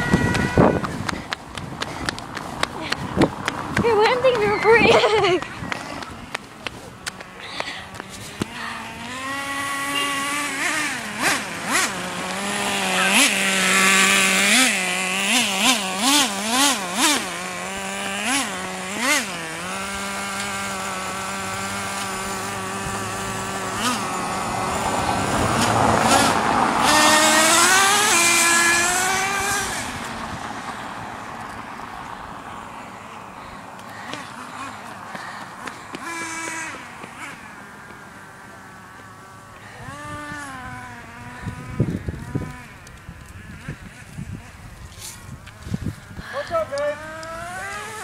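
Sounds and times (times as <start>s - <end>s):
small two-stroke engine revving: 0.0s - 1.3s, 6.9s - 31.5s, 32.5s - 48.0s.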